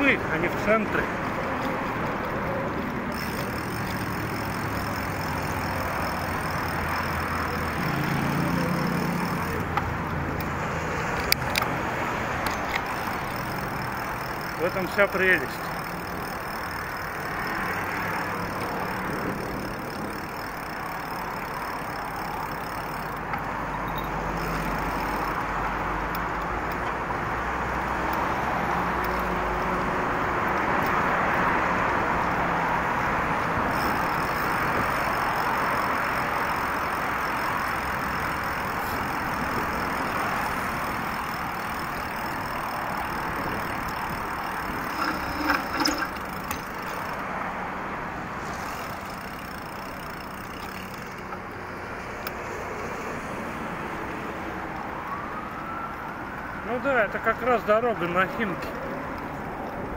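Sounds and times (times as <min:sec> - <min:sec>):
car and bus traffic: 0:00.0 - 0:59.9.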